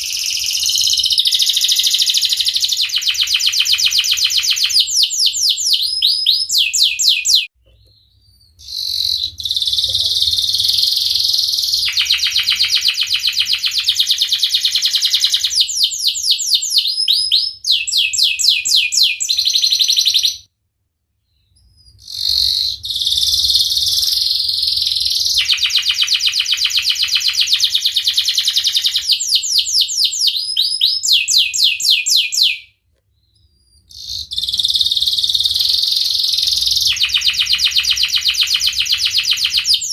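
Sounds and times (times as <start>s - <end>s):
canary singing trills: 0.0s - 20.5s, 21.3s - 39.9s.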